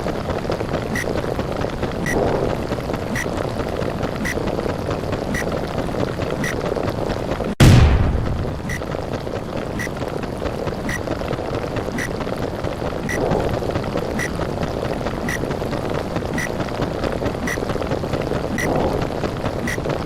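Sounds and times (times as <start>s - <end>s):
muffled underwater water rush: 0.0s - 20.0s.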